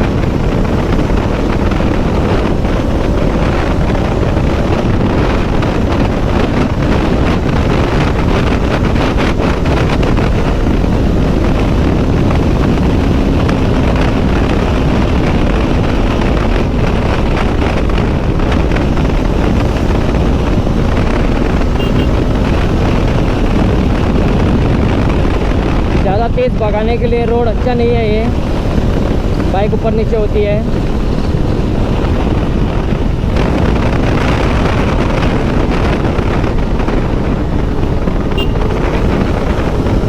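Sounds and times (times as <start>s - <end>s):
motorcycle engine hum: 0.0s - 40.0s
road noise: 0.0s - 40.0s
wind rush on microphone: 0.0s - 40.0s.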